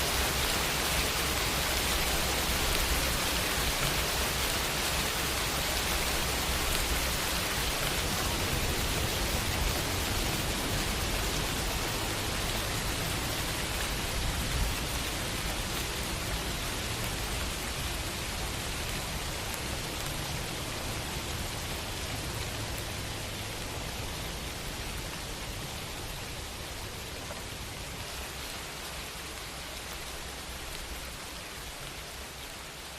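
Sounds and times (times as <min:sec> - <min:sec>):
rain on a window: 0:00.0 - 0:32.9.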